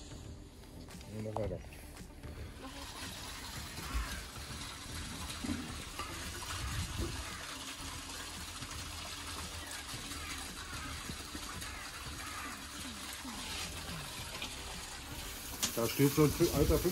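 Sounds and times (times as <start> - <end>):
running water rushing: 2.4 - 16.9.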